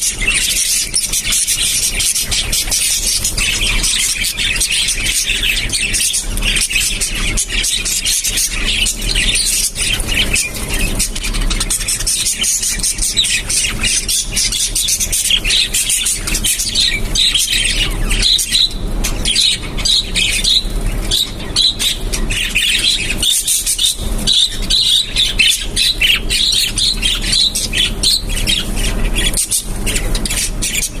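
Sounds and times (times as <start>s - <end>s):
budgerigars chattering: 0.0s - 31.0s.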